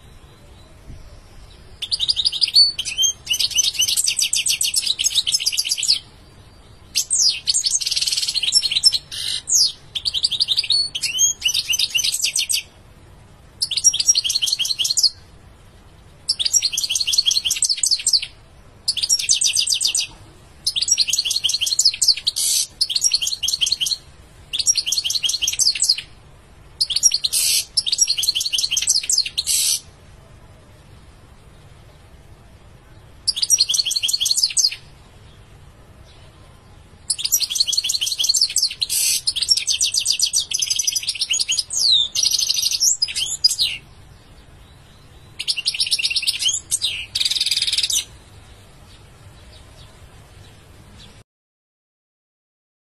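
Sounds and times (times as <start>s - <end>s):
bird twittering song: 0.0s - 12.8s, 13.6s - 26.2s, 26.8s - 30.0s, 32.8s - 51.2s.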